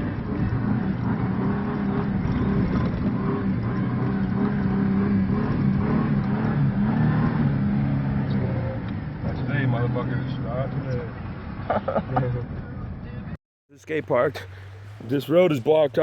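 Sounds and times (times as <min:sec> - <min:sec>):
pickup truck engine droning: 0:00.0 - 0:13.3
road and tyre rumble: 0:00.0 - 0:16.0.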